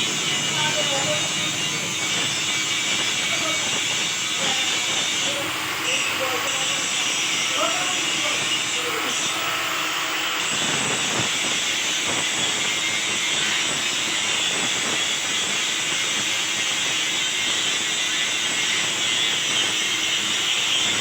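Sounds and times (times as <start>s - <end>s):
welding arc crackling sizzle: 0.0s - 21.0s.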